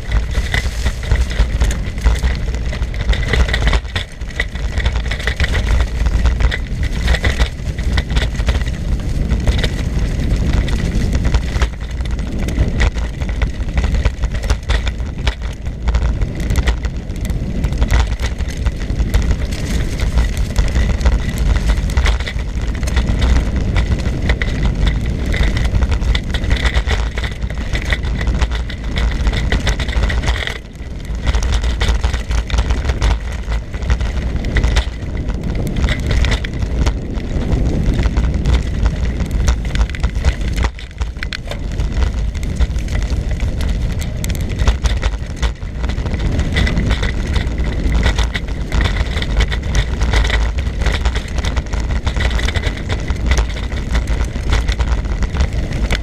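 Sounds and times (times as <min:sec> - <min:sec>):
rattle from bumps: 0:00.0 - 0:56.0
tyre and road rumble: 0:00.0 - 0:56.0
wind buffeting microphone: 0:00.0 - 0:56.0.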